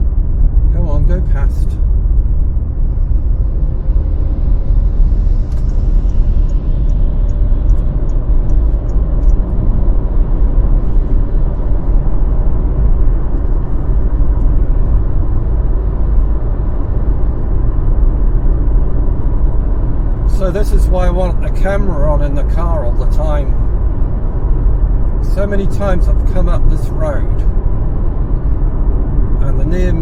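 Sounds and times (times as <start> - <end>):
car interior engine and road noise: 0.0 - 30.0.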